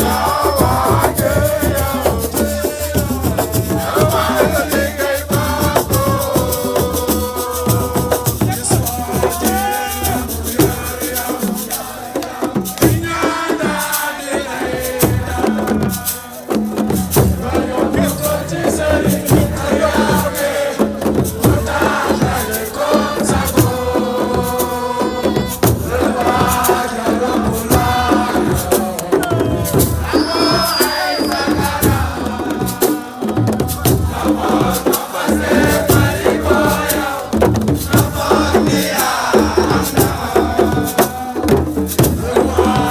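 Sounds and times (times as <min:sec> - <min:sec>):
rhythmic percussion: 0:00.0 - 0:42.9
shaken rattles: 0:00.0 - 0:42.9
voices chanting and singing: 0:00.0 - 0:42.9.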